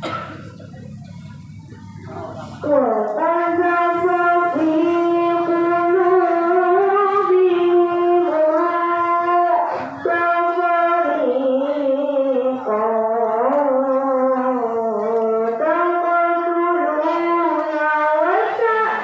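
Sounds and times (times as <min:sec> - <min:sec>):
boy chanting over a pa system: 0:00.0 - 0:19.0.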